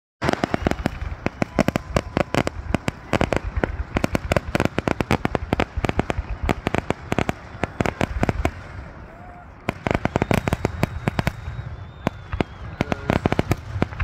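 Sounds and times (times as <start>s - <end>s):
fireworks bangs: 0.2s - 14.0s.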